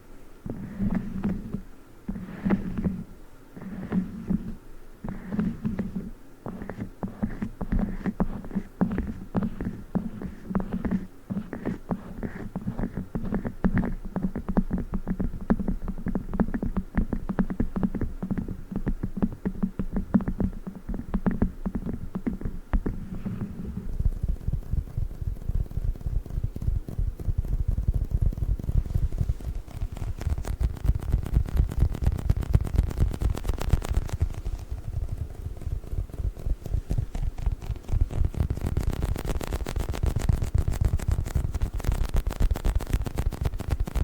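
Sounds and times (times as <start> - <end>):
fast tapping on toy: 0.5 - 44.0.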